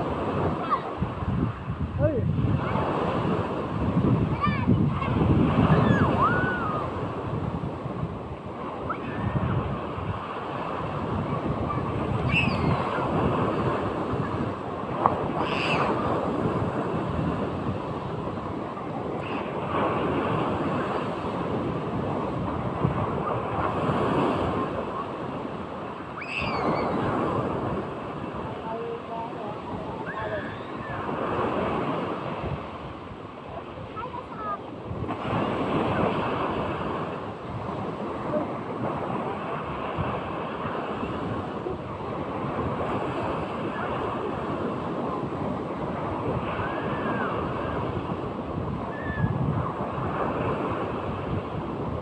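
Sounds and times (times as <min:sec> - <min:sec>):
sea waves breaking: 0:00.0 - 0:52.0
wind buffeting microphone: 0:00.0 - 0:52.0.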